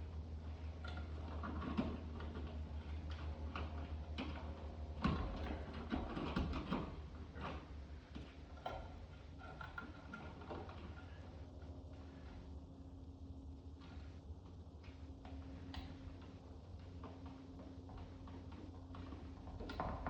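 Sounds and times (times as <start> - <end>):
steady low hum: 0.0 - 20.0
hands clicking and rustling wires: 0.4 - 12.4, 13.6 - 20.0.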